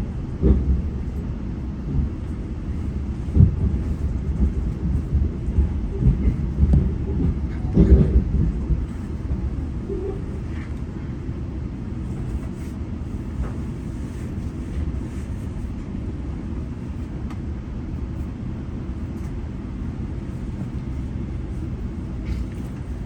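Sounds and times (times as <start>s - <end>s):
train rumble inside coach: 0.0s - 23.0s.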